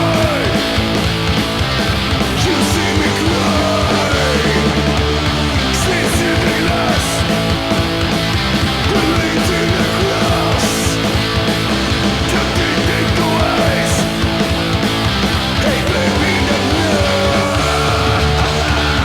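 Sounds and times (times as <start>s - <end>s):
punk rock band playing: 0.0s - 19.0s.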